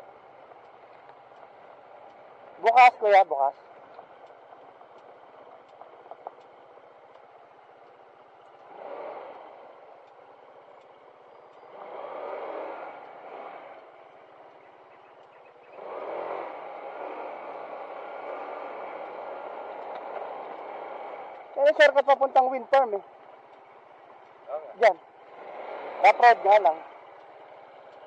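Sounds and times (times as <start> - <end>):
motorcycle engine running: 0.0 - 28.0
tyres crunching on gravel: 0.0 - 28.0.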